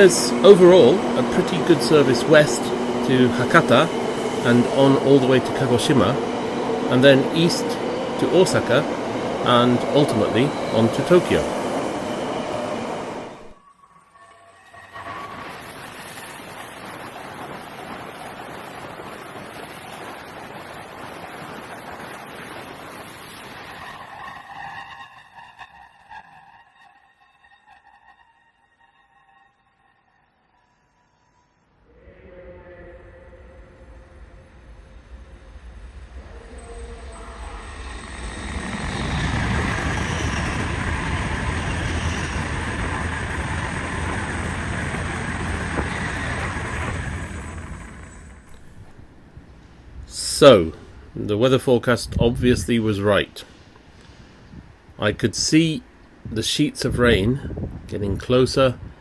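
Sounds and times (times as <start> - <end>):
train passing at high speed: 0.0 - 50.0.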